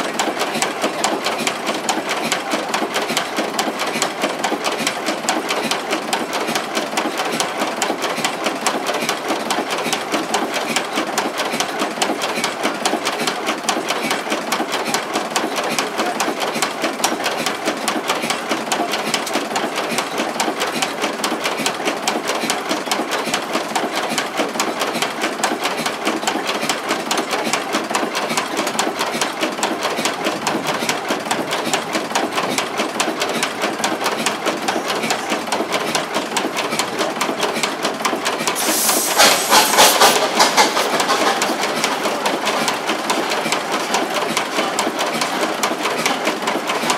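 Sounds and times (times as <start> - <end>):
industrial diesel engine clattering: 0.0 - 46.9.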